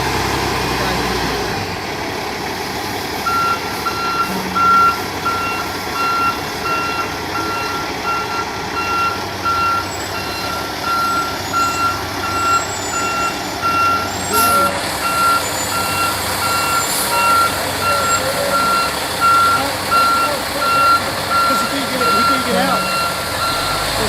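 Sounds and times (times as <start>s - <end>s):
truck engine rumble: 0.0s - 24.0s
truck reversing alarm beeping: 3.2s - 24.0s.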